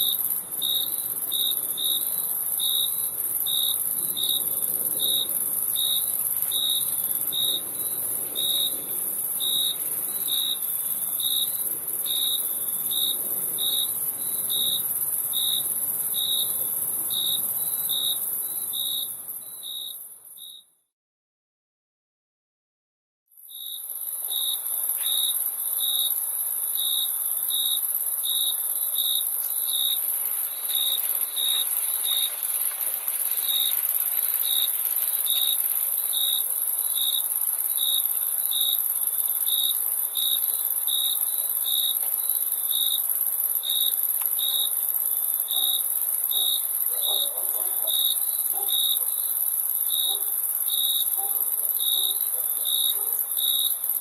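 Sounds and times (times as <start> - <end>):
crickets chirping: 0.0 - 20.6, 23.4 - 54.0.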